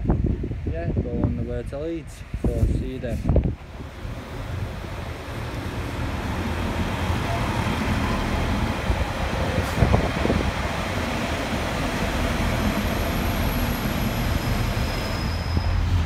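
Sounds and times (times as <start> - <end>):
railbus engine and wheels rumbling: 0.0 - 16.0.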